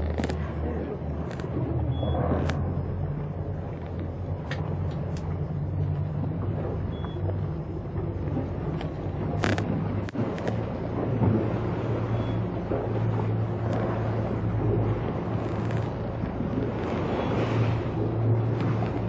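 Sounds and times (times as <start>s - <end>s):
boat engine humming: 0.0s - 19.0s
water noise: 0.0s - 19.0s
wind: 0.0s - 19.0s.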